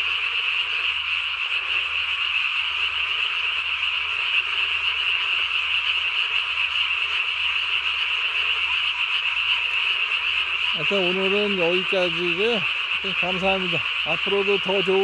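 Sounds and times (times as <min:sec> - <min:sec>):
chorus of frogs calling: 0:00.0 - 0:15.0.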